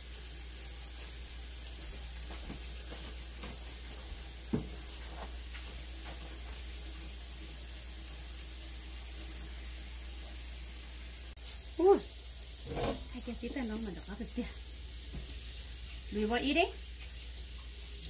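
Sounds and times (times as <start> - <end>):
seafood sizzling: 0.0 - 18.0.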